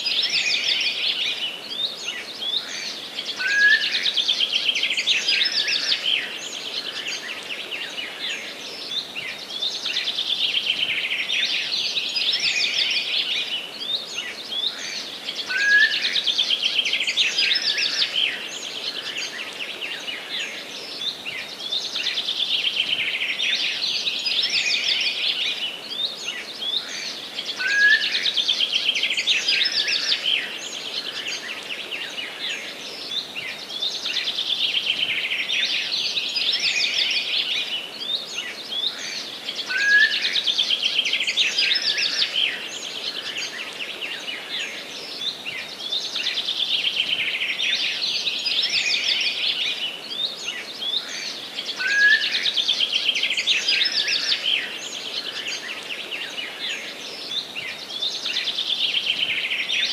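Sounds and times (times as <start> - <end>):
forest birds singing: 0.0 - 59.9.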